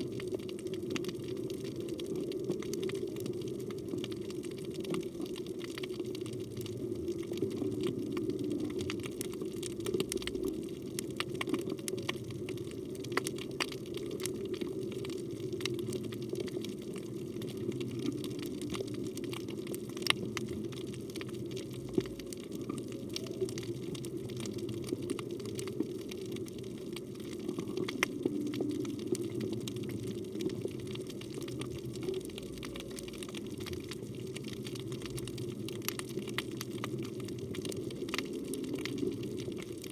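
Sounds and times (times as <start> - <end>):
sharp clicks and crackles: 0.0 - 39.9.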